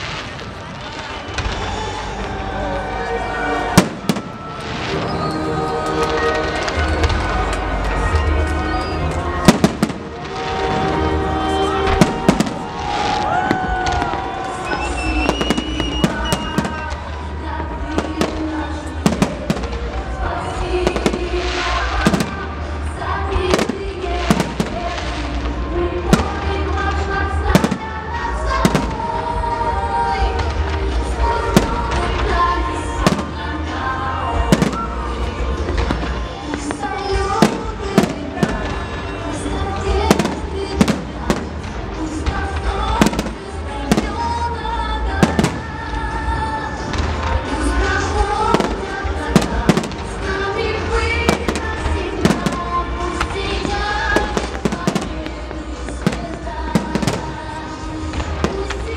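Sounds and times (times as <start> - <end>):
fireworks bursting: 0.0 - 58.9
music with sustained notes: 0.0 - 58.9.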